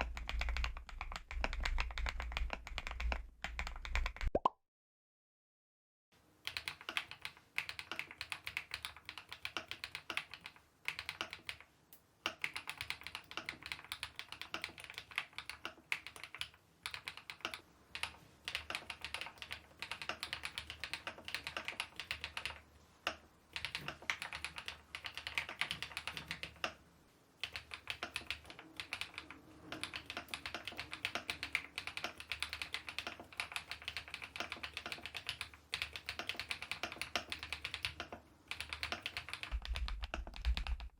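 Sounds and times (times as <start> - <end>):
typing on mechanical keyboard: 0.0 - 4.3, 6.4 - 26.8, 27.4 - 40.9.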